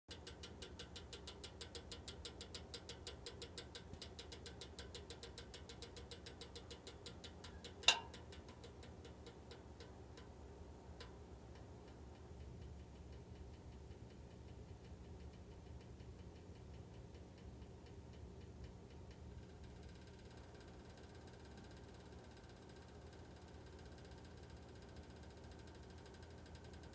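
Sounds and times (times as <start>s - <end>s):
electric heater ticking: 0.1s - 26.9s
steady low hum: 0.1s - 26.9s.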